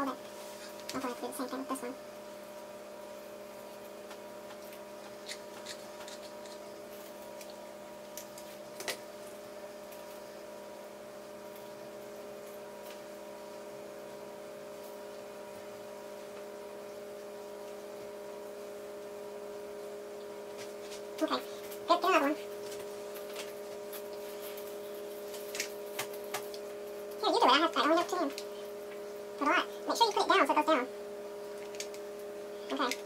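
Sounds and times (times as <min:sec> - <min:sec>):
steady electrical hum: 0:00.0 - 0:33.0.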